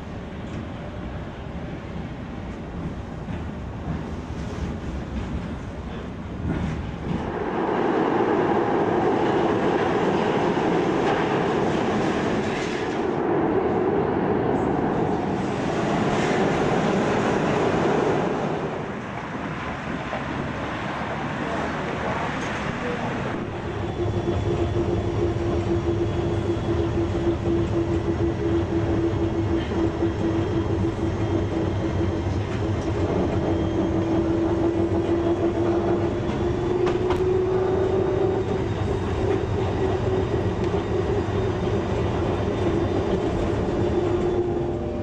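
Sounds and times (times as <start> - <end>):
tram wheels rumbling on rails: 0.0 - 45.0
tram whine: 0.0 - 45.0.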